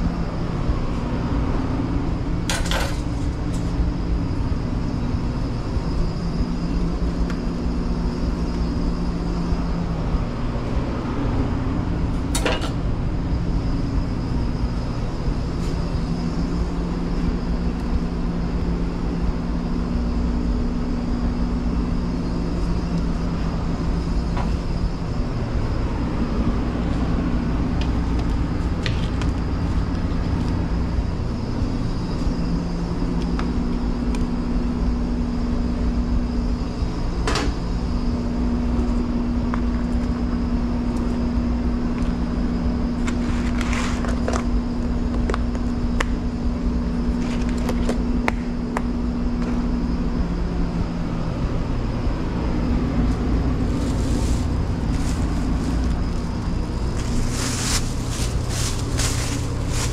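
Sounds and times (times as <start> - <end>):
kitchen equipment drone: 0.0 - 59.9.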